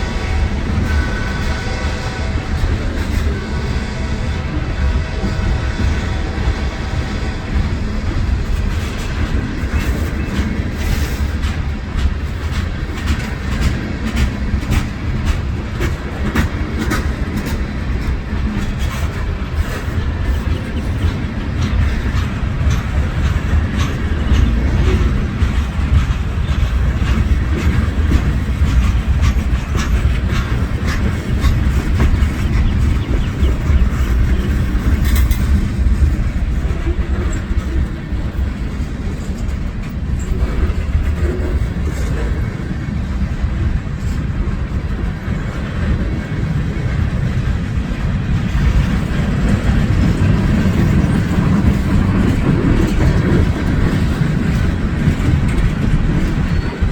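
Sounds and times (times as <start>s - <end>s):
train rumbling past: 0.0s - 56.9s
wheels clicking on rails: 0.0s - 56.9s.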